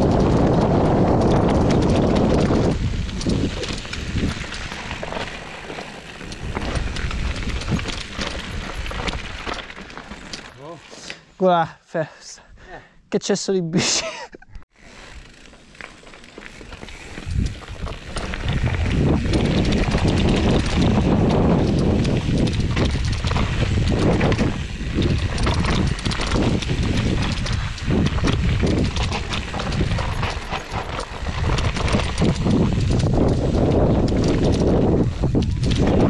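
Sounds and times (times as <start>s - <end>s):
bike knocks and rattles: 0.0s - 10.8s, 15.2s - 36.0s
bike tyre rumble on dirt: 0.0s - 11.2s, 14.7s - 36.0s.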